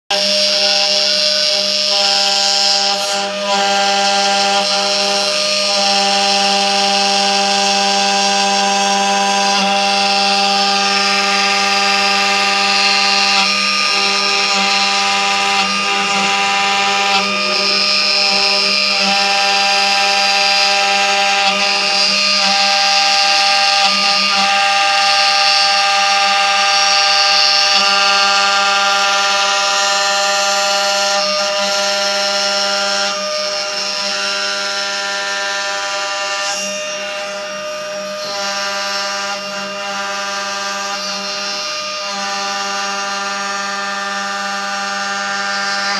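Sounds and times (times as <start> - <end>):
cnc router spindle whine: 0.1 - 45.9.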